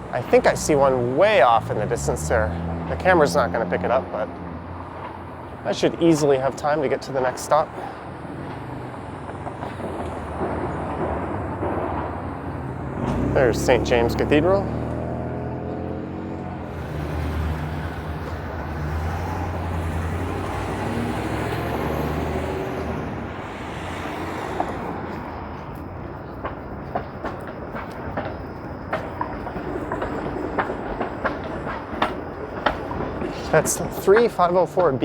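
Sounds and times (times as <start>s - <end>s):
streetcar rumbling on rails: 0.0s - 35.0s.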